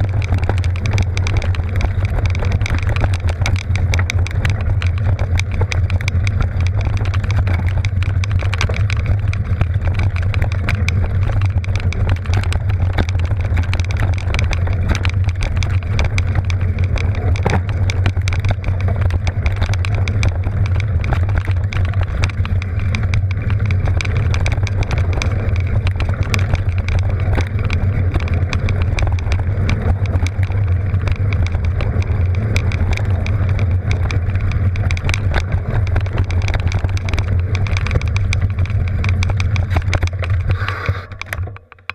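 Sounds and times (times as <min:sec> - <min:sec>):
bike clattering and ticking: 0:00.0 - 0:41.9
bike tyres rumbling on dirt: 0:00.0 - 0:41.9.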